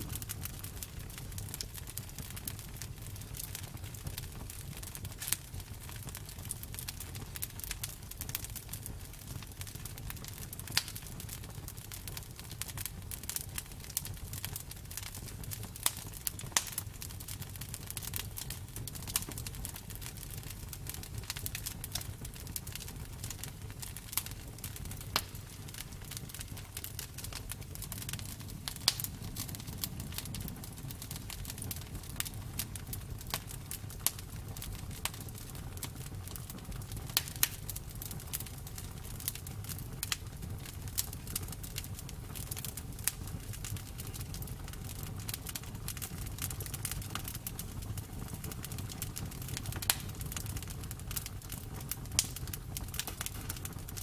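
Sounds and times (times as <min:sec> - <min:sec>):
bonfire pops and snaps: 0:00.0 - 0:54.0
low rumble of flames: 0:00.0 - 0:54.0.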